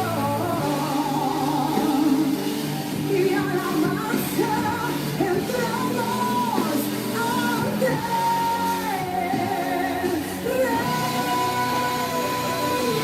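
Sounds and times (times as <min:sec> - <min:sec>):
song with singing and instruments: 0:00.0 - 0:13.0.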